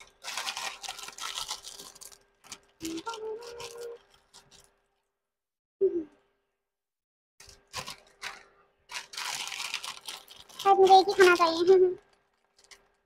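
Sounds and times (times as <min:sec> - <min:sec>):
plastic packets crinkling: 0:00.0 - 0:05.1, 0:07.4 - 0:13.0.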